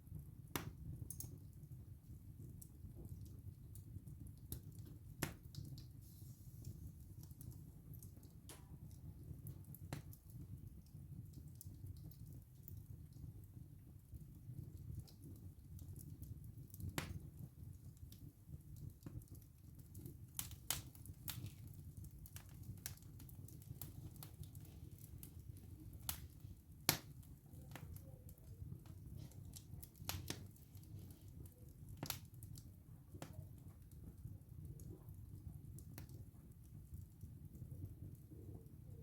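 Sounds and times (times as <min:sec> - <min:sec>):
fire rumbling: 0:00.0 - 0:39.0.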